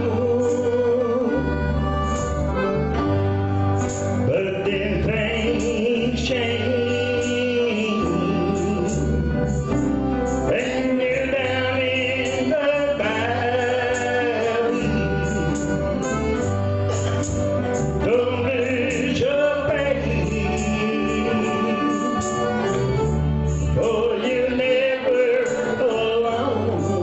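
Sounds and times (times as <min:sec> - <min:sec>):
man singing gospel song: 0:00.0 - 0:01.9, 0:04.2 - 0:16.6, 0:18.0 - 0:27.0
instrumental accompaniment with bass: 0:00.0 - 0:27.0.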